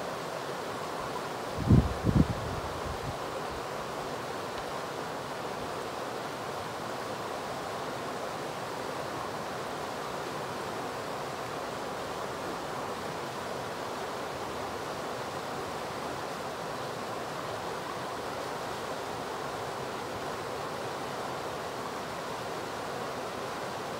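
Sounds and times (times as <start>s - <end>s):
river rushing over rocks: 0.0s - 23.9s.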